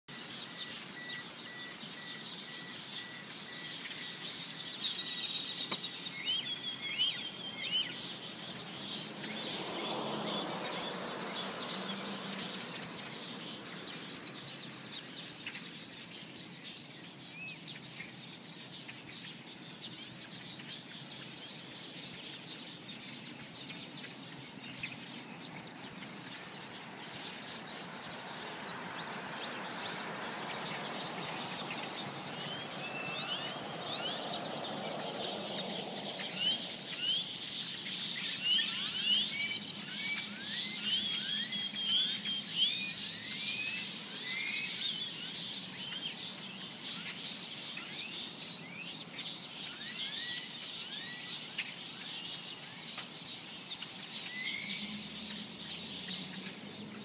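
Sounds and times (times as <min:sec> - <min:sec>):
flock of small birds chirping: 0:00.0 - 0:57.0.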